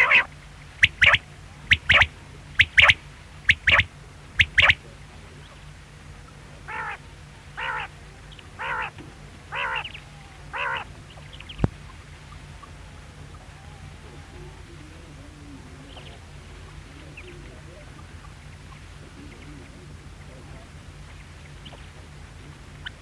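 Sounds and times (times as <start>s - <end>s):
quail calling: 0.0s - 5.6s, 6.2s - 22.0s, 22.7s - 23.0s.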